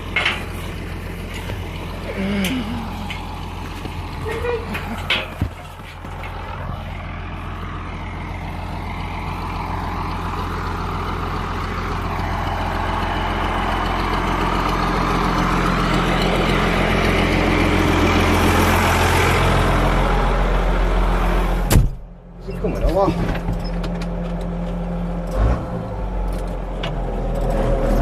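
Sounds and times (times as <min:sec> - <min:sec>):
heavy engine running: 0:00.0 - 0:28.0.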